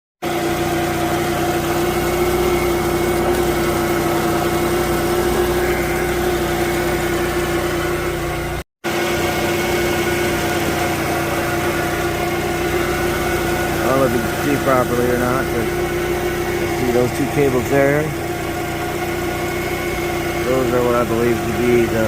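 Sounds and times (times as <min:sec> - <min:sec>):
car engine idling with whine: 0:00.2 - 0:08.6, 0:09.2 - 0:22.0.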